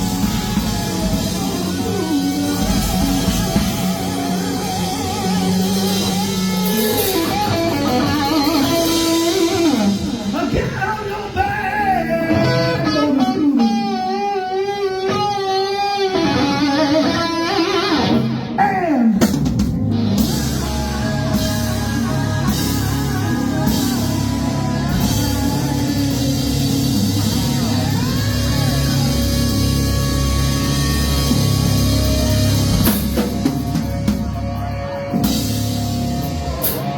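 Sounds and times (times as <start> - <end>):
drums: 0.0 - 36.9
electric guitar: 0.0 - 36.9
rock band playing: 0.0 - 36.9.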